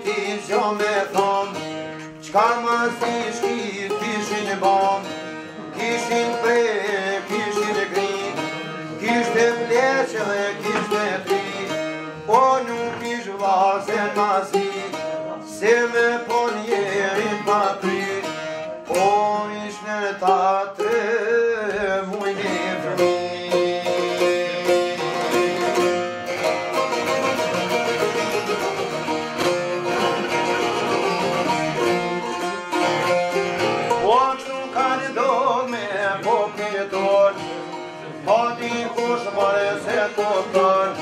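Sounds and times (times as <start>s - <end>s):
man singing: 0.0s - 25.9s, 29.8s - 41.0s
plucked lutes playing folk tune: 0.0s - 41.0s.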